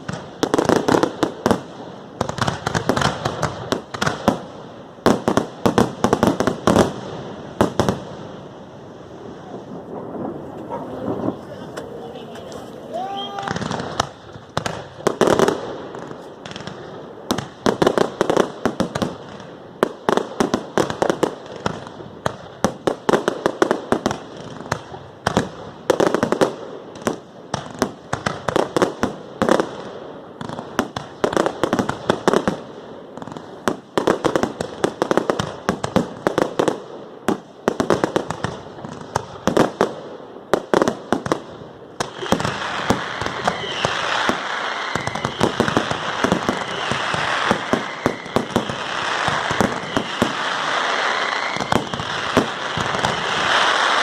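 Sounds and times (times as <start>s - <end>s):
fireworks cracking and banging: 0.0s - 54.0s.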